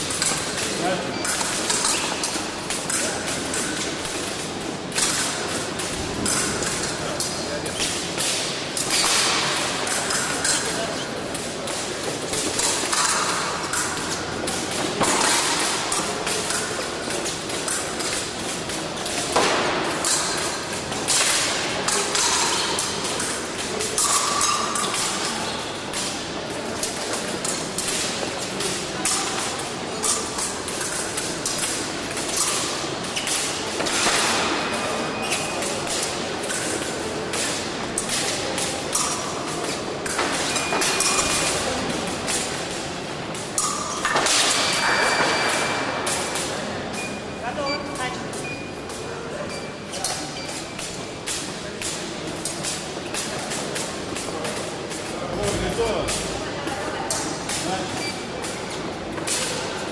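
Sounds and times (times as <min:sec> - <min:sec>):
fencing blades clashing: 0:00.0 - 0:59.9.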